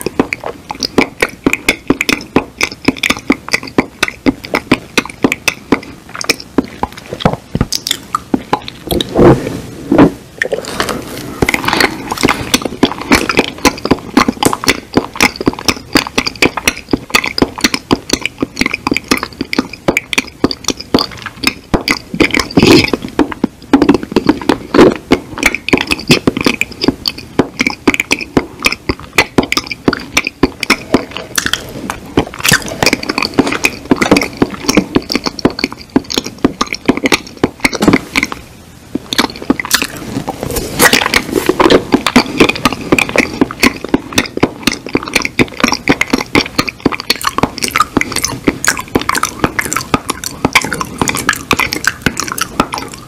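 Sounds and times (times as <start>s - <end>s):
tongue clicks: 0.0s - 9.1s, 11.5s - 38.4s, 39.0s - 53.0s
wet lip smacks: 0.0s - 9.5s, 10.4s - 38.4s, 39.0s - 53.0s
mouth chewing noises: 0.0s - 53.0s.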